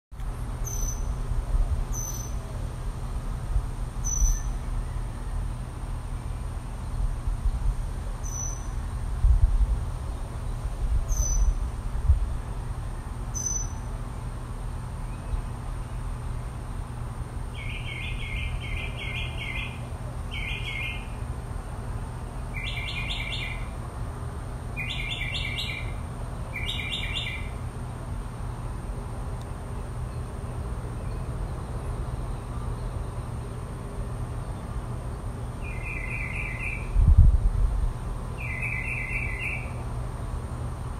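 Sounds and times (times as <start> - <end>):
songbirds chirping: 1.8 - 9.0, 10.0 - 11.8, 12.5 - 37.0, 38.2 - 40.9.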